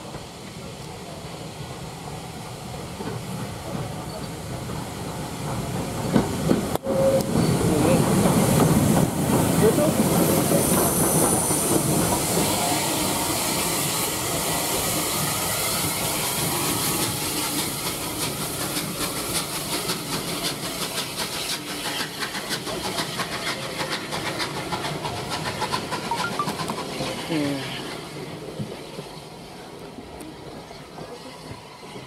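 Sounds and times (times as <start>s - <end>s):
steam locomotive passing: 0.0s - 32.0s.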